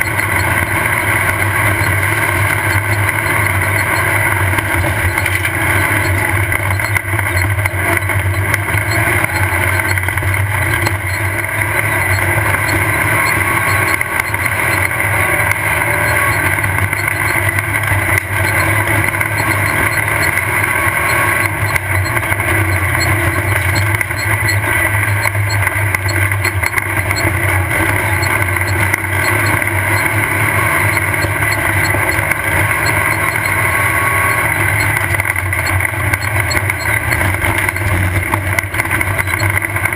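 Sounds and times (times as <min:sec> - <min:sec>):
buggy engine droning: 0:00.0 - 0:39.9.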